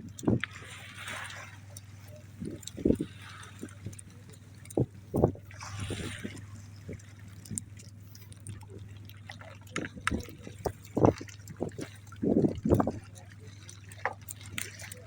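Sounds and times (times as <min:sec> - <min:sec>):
steady low hum: 0:00.0 - 0:15.0
water splashes and drips: 0:00.0 - 0:15.0.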